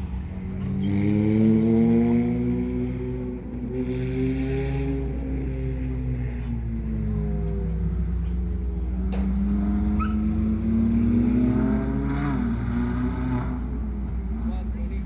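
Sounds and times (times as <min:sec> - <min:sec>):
race car engine passing: 0:00.0 - 0:14.7.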